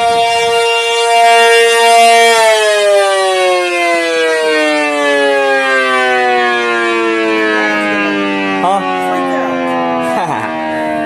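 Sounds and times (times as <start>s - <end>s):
siren chord winding down: 0.0s - 11.0s.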